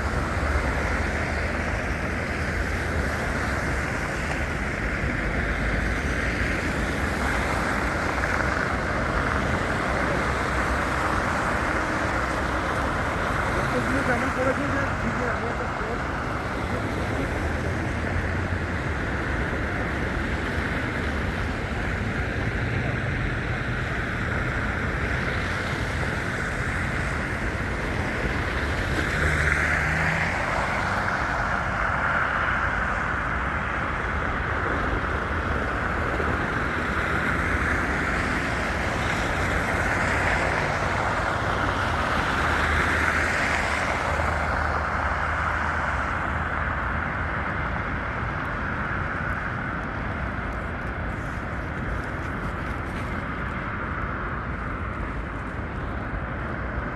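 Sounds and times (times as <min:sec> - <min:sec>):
traffic noise: 0:00.0 - 0:56.9.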